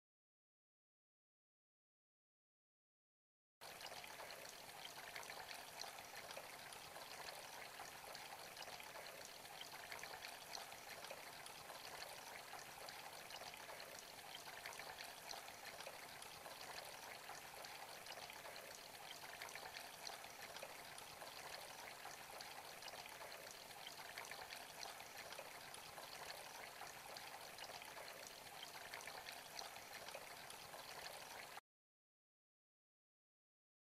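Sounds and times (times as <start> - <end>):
water trickling and splashing: 3.6 - 31.6.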